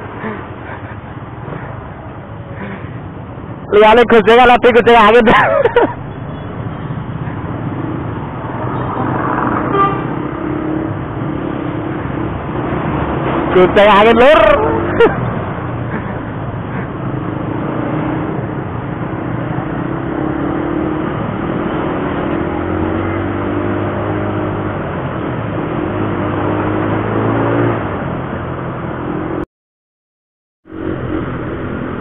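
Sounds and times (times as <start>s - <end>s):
motorcycle engines riding: 0.0s - 29.4s, 30.7s - 32.0s
wind and road noise: 0.0s - 29.4s, 30.6s - 32.0s.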